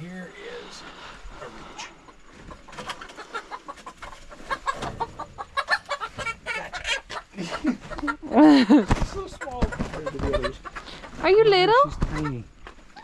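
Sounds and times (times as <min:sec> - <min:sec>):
chicken clucking and squawking: 0:00.9 - 0:13.0.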